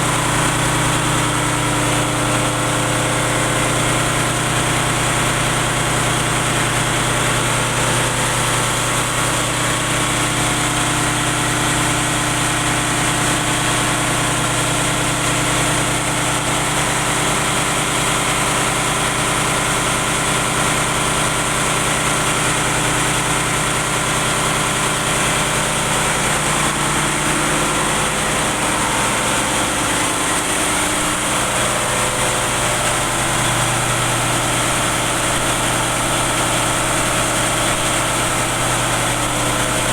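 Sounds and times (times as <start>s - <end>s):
diesel machinery droning: 0.0s - 39.9s.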